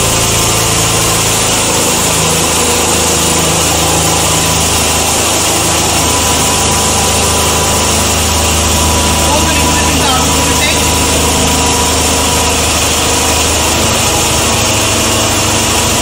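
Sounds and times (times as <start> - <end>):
motor and alternator whirring: 0.0 - 16.0.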